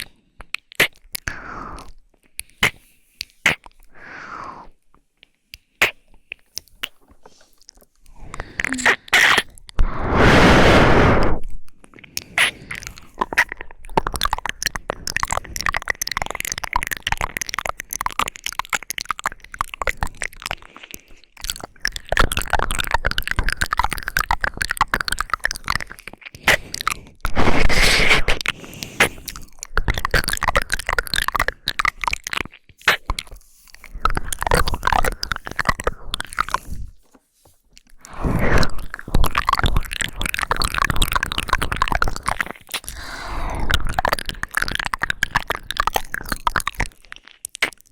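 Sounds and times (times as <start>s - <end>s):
close crackling and clicks: 4.9s - 47.9s.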